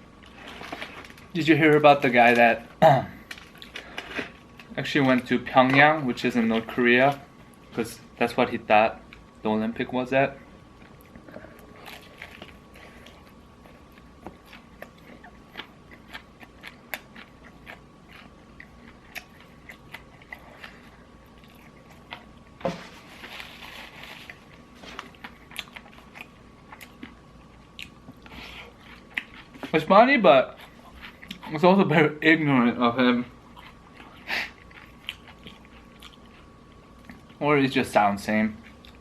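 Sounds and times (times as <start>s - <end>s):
crunchy chewing of fried chicken: 0.0s - 9.4s, 10.4s - 31.8s, 33.1s - 39.0s.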